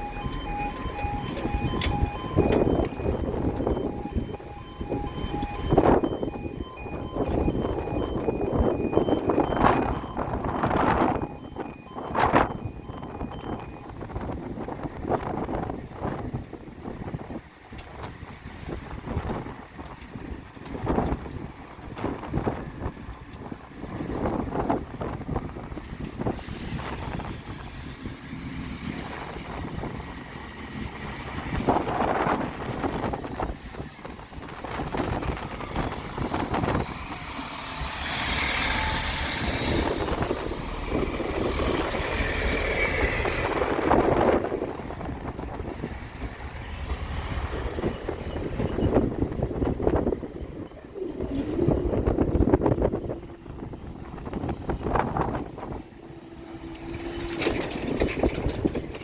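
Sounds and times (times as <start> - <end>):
gusty wind buffeting microphone: 0.0 - 59.0.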